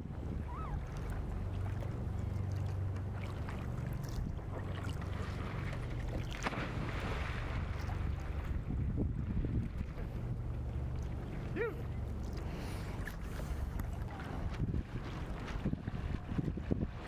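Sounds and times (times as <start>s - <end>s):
water sounds: 0.0s - 17.0s.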